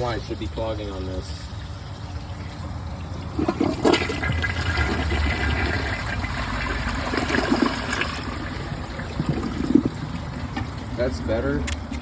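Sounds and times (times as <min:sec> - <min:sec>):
toilet flushing: 0:00.0 - 0:11.3.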